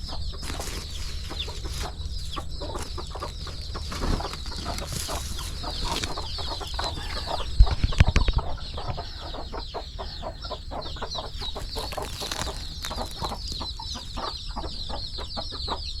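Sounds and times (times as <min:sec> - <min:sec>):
chickens clucking: 0:00.0 - 0:16.0
chicks peeping: 0:00.0 - 0:16.0.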